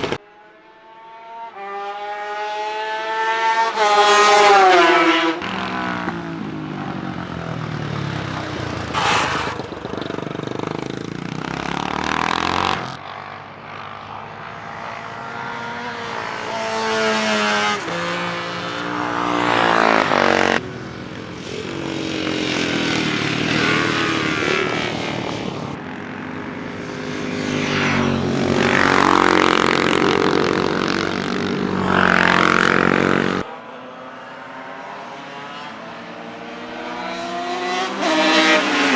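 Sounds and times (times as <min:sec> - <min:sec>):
racing motorcycles passing by: 0:00.0 - 0:38.9.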